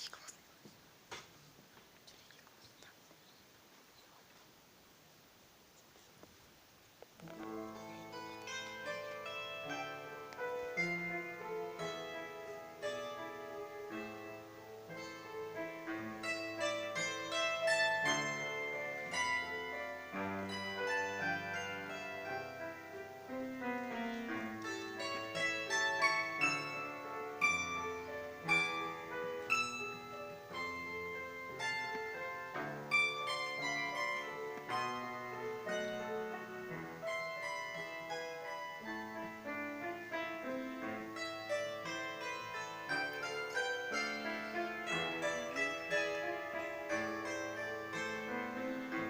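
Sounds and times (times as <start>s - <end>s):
plucked string instrument melody: 7.2s - 49.0s.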